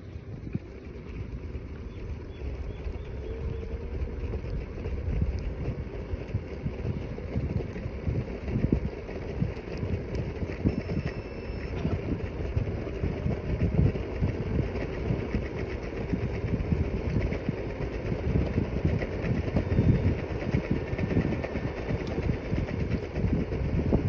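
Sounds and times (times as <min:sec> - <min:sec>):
scooter motor running: 0:00.0 - 0:24.0.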